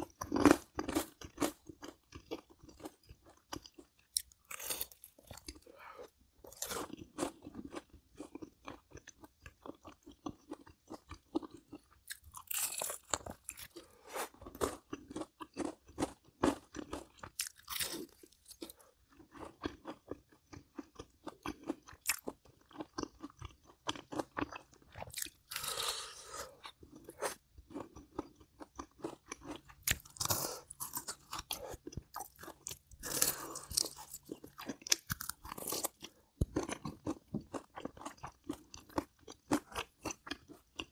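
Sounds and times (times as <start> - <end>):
person crunching crisp food: 0.0 - 40.9.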